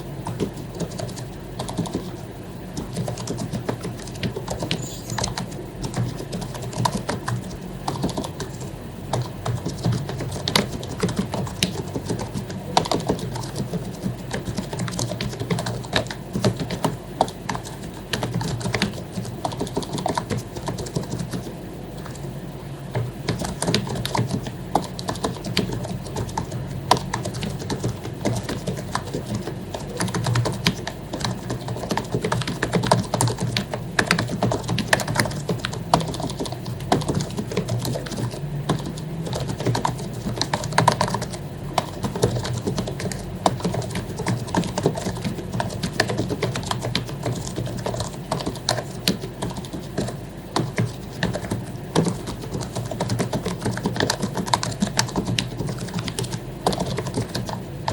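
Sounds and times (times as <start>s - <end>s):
keyboard typing: 0.0s - 57.9s.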